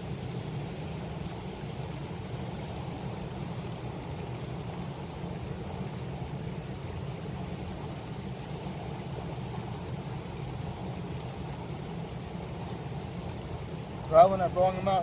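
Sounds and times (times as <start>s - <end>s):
river water flowing over rocks: 0.0s - 15.0s.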